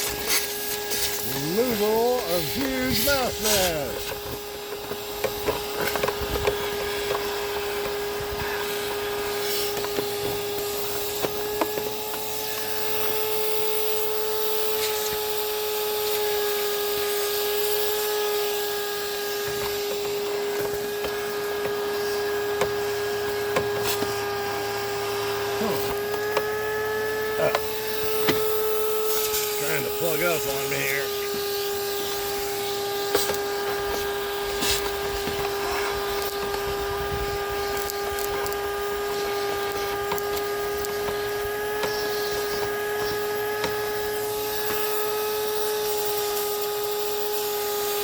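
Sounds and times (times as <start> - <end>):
debris rattling up hose: 0.0 - 47.3
vacuum cleaner motor whining: 0.0 - 48.0.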